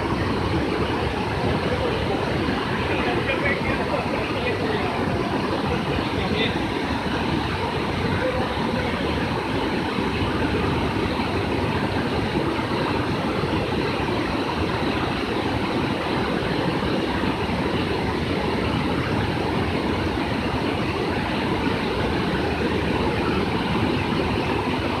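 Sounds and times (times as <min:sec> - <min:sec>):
water rushing over weir: 0:00.0 - 0:25.0.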